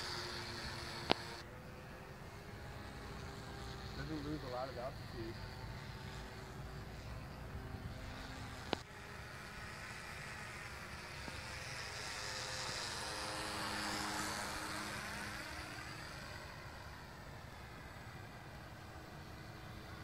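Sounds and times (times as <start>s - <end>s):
model plane motor buzzing: 0.0s - 20.0s.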